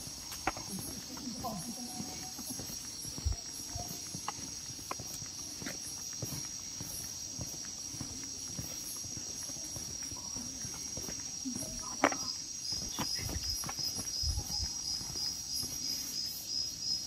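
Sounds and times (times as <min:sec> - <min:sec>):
footsteps on pavement: 0:00.0 - 0:17.0
insects trilling: 0:00.0 - 0:17.0.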